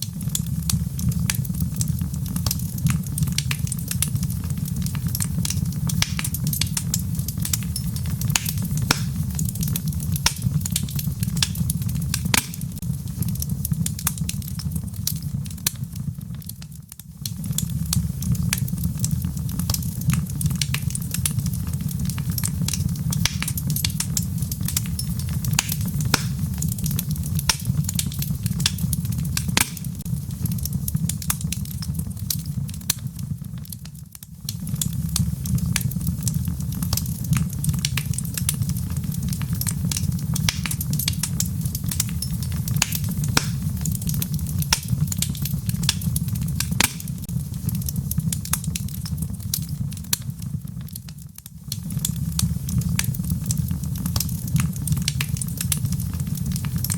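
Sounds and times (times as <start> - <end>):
gentle rain falling: 0.0 - 56.9
wood fire crackling: 0.0 - 56.9.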